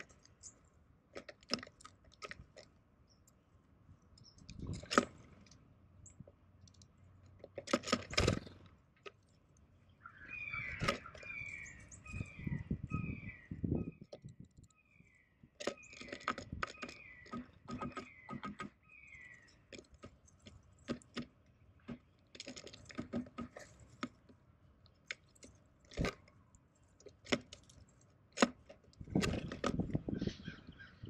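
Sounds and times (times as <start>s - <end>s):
bird pecking and cracking seeds: 0.0s - 12.5s, 14.0s - 30.2s.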